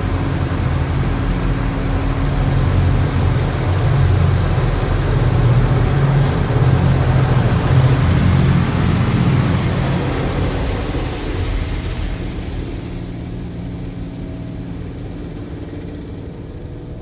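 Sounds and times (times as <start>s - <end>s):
heavy low rumble: 0.0s - 17.0s
water spraying onto car: 1.8s - 15.8s.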